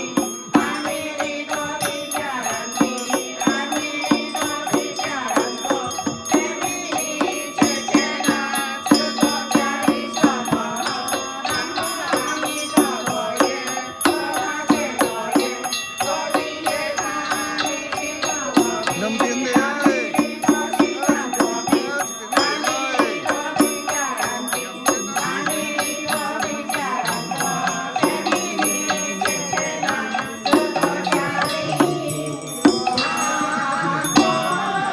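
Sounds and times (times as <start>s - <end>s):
chant-like melody: 0.0s - 34.9s
percussion strikes: 0.0s - 34.9s.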